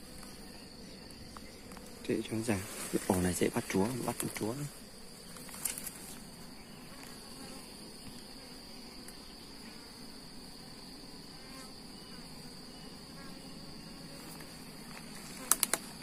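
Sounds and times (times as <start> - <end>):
high-pitched insect whine: 0.0 - 16.0
honeybees buzzing: 0.0 - 16.0.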